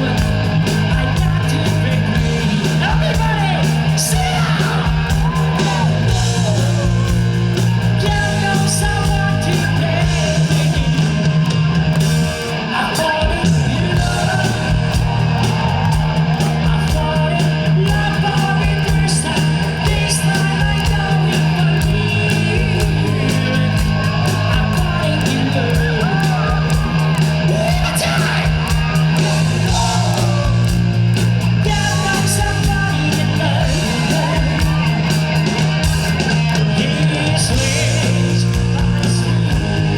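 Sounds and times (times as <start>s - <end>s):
person singing: 0.0s - 7.4s, 8.0s - 11.2s, 12.7s - 39.9s
bass guitar: 0.0s - 39.9s
drums: 0.0s - 39.9s
electric guitar: 0.0s - 39.9s.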